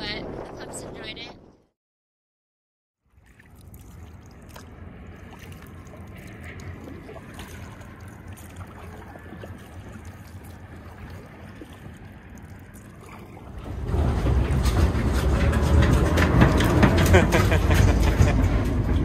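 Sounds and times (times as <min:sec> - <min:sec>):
water trickling off paddle: 0:03.0 - 0:18.3
paddle strokes splashing: 0:03.0 - 0:18.4
steady low rumble: 0:03.6 - 0:19.0.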